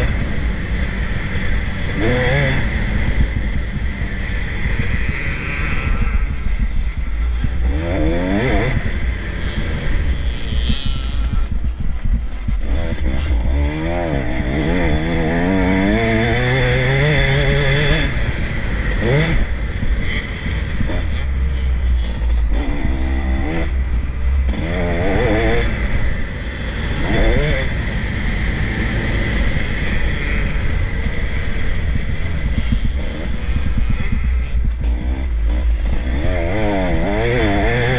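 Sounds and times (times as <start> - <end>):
motocross bikes revving past: 0.0 - 37.9
steady low rumble: 0.0 - 37.9.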